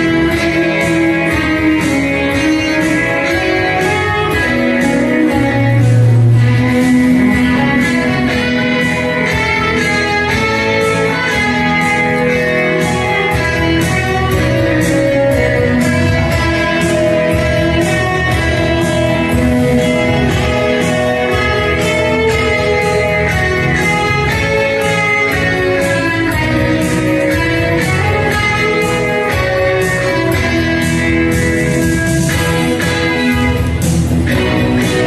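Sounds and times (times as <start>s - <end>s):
guitar music over steady beat: 0.0s - 35.0s.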